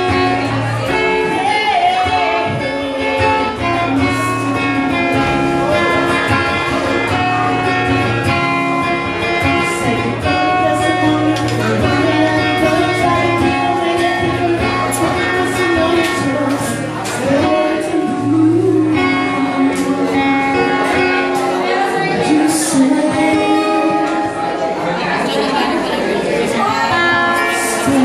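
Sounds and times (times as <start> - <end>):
acoustic guitar strummed and picked: 0.0 - 28.0.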